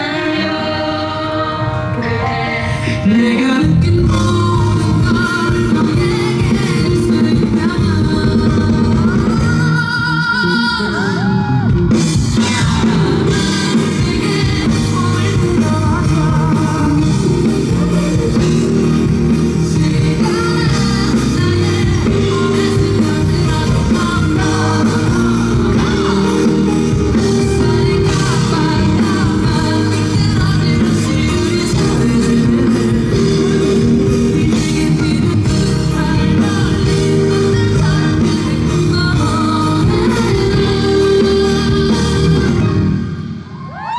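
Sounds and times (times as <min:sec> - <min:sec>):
live pop-rock band with singing: 0:00.0 - 0:43.9.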